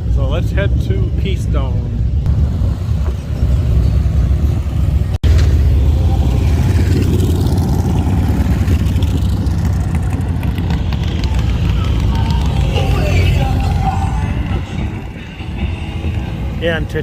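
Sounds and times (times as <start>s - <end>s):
motorcycle engine running: 2.3s - 17.0s.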